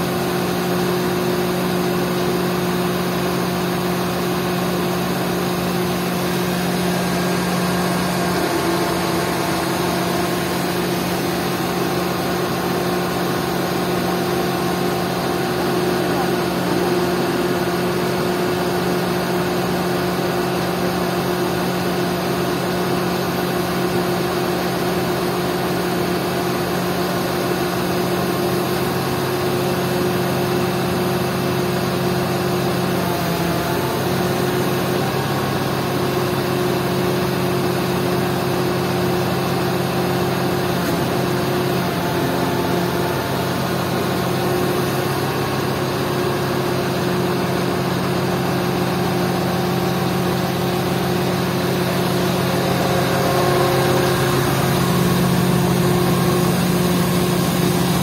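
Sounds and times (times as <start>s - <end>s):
crane diesel engine running: 0.0s - 58.0s.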